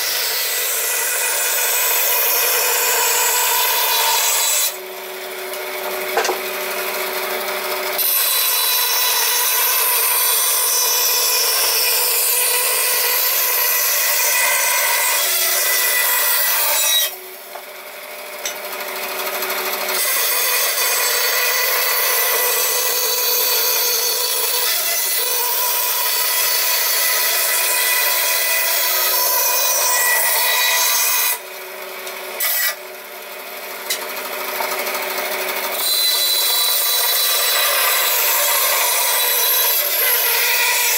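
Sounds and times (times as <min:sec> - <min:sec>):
power tool cutting wood: 0:00.0 - 0:40.9.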